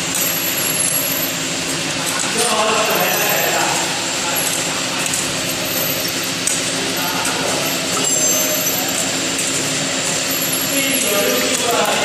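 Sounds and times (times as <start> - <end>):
labeling machine humming: 0.0 - 12.0.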